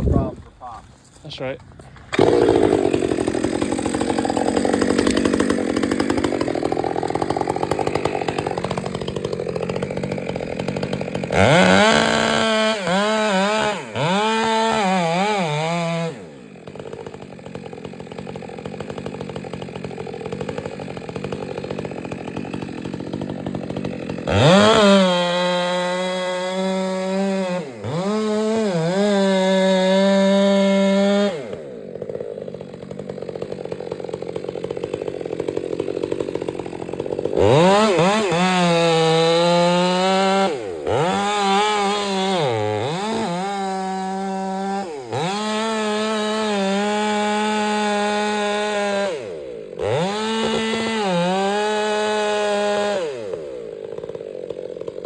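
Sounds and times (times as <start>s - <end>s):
chainsaw cutting at full throttle: 0.0s - 55.0s.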